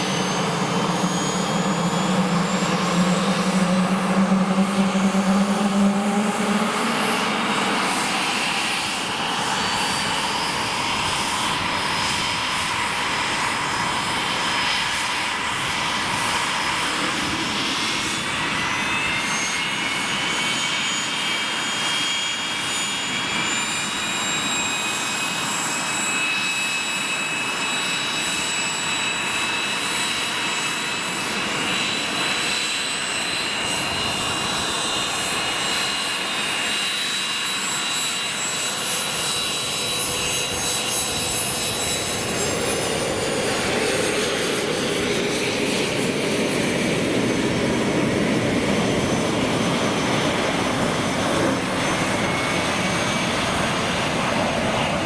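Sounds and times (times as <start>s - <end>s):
high turbine whines: 0.0s - 55.0s
jet engines running: 0.0s - 55.0s.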